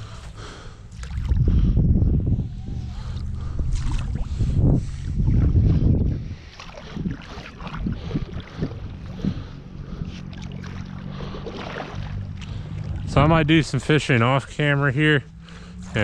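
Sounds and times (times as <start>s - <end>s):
water splashing and sloshing: 0.0s - 1.8s, 2.5s - 14.7s.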